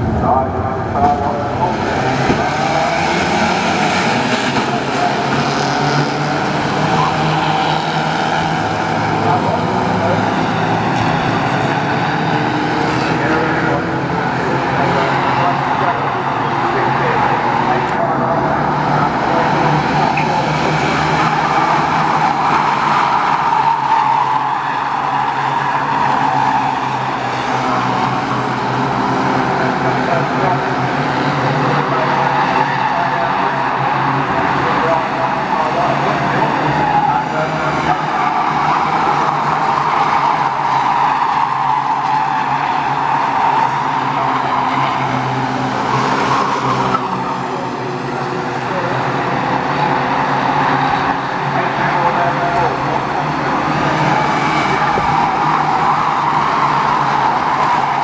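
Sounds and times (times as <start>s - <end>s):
racing car engines: 0.0s - 58.0s.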